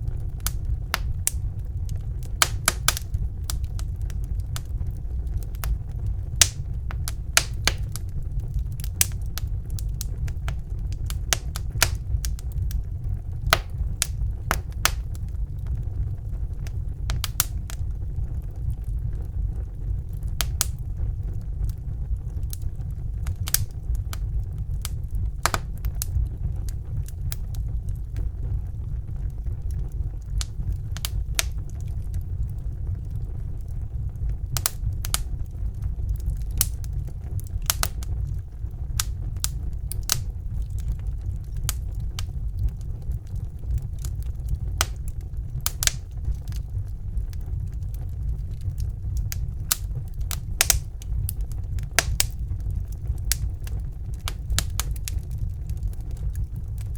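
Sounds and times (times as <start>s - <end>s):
fire crackling and popping: 0.0s - 56.9s
fire flames rumbling: 0.0s - 56.9s.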